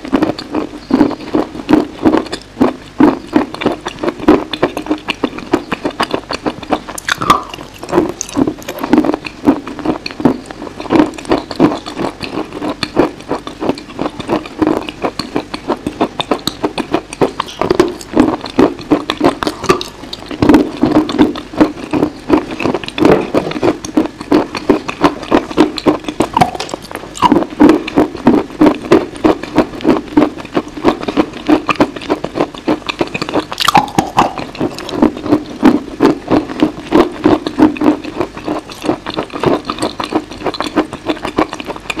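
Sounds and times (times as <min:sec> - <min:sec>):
chewing crunchy chalk: 0:00.0 - 0:42.0.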